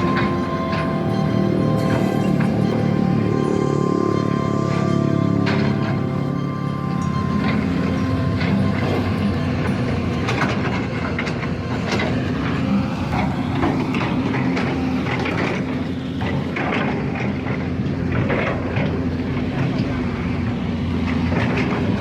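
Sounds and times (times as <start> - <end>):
diesel engine hum: 0.0 - 22.0.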